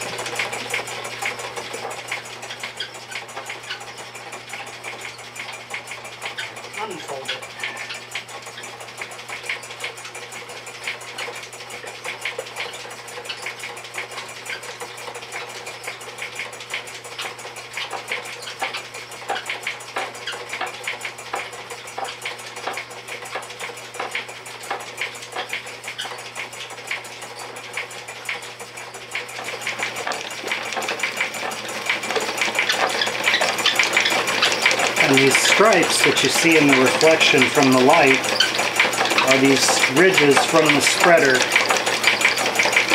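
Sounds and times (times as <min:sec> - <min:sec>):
gears and rollers clattering: 0:00.0 - 0:42.9.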